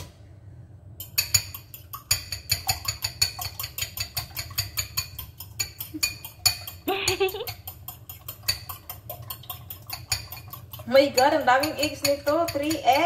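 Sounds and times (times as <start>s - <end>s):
spoon beating eggs in a bowl: 1.0s - 13.0s.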